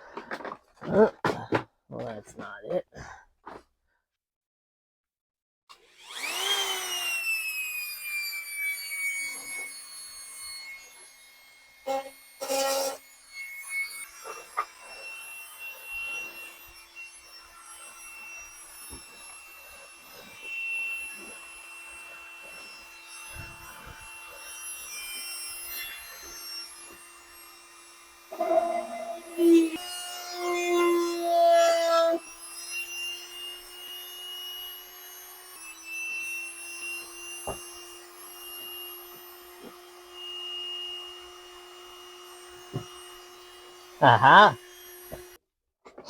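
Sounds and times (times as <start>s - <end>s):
rotary tool grinding: 5.8s - 45.4s.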